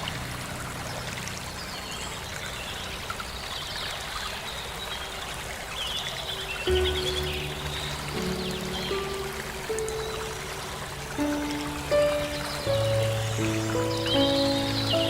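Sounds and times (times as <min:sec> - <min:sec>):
flowing water: 0:00.0 - 0:15.0.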